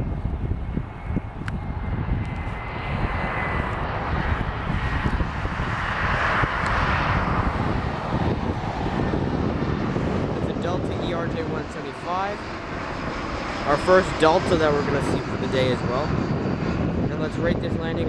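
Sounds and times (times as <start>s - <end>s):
jet engines passing: 0.0s - 18.0s.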